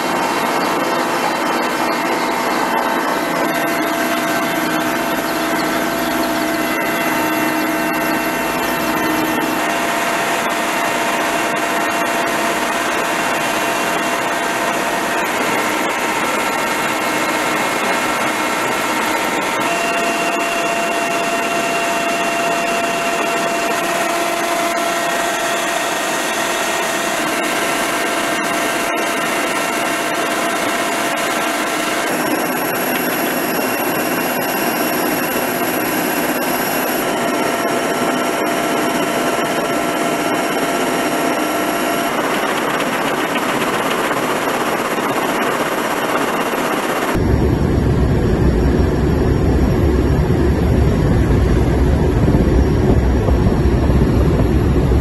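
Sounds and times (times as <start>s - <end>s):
helicopter cabin noise: 0.0s - 55.0s.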